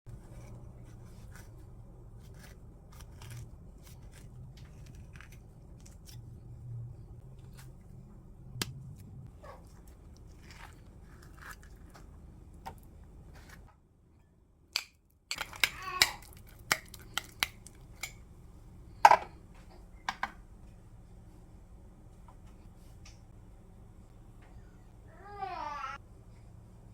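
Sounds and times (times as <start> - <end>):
steady low hum: 0.1 - 15.4, 16.4 - 25.3.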